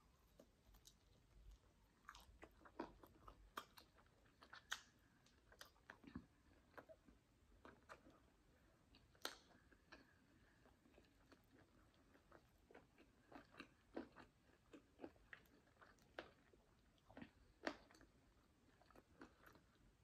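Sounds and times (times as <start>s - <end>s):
chewing clicks and smacks: 0.4s - 8.2s, 8.9s - 18.1s.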